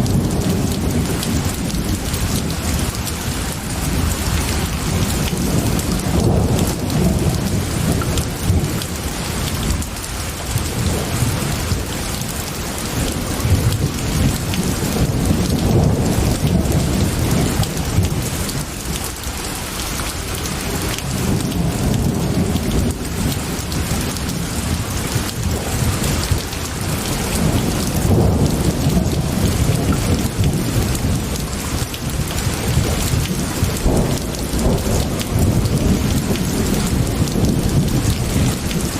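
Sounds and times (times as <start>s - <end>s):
rolling thunder: 0.0s - 18.8s, 20.3s - 38.9s
heavy rain: 0.0s - 38.9s.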